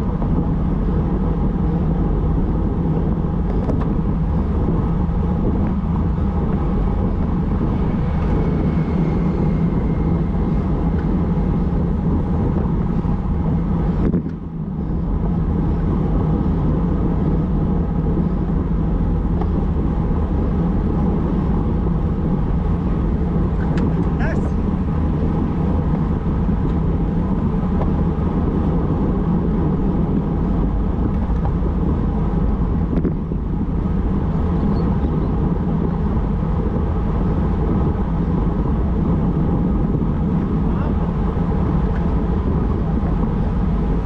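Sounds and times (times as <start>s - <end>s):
wind rush on microphone: 0.0s - 44.0s.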